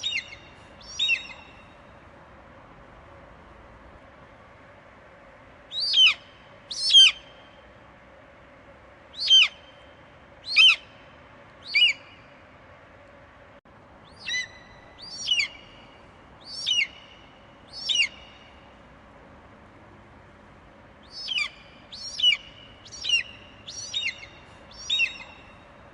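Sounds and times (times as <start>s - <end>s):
faint steady hiss: 0.0s - 25.9s.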